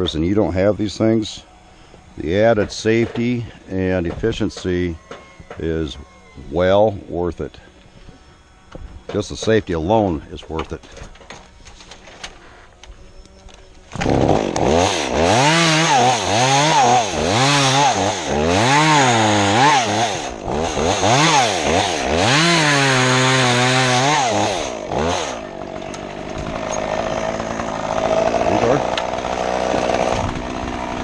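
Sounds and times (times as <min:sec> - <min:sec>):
chainsaw cutting limbs: 0:00.0 - 0:31.0.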